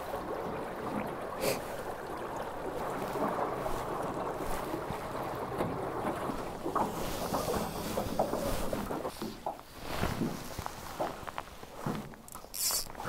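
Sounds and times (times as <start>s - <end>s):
water swishing along hull: 0.0s - 13.0s.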